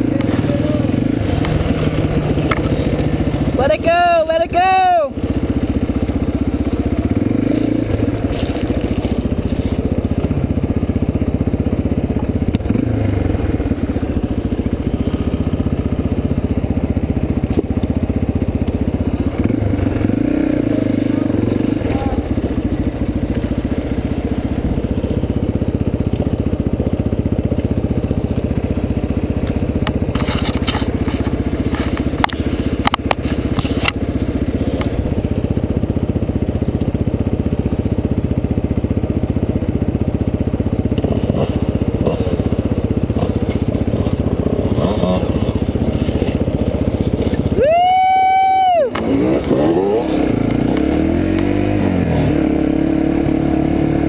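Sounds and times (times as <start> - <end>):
gravel crunching under tyres: 0.0 - 3.6, 5.2 - 19.8, 21.1 - 52.4
dirt bike engine running: 0.0 - 54.0.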